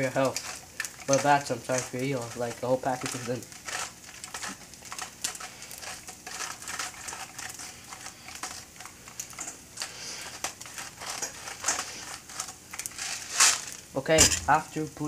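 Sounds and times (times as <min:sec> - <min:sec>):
salt grinder crunching: 0:00.0 - 0:15.0.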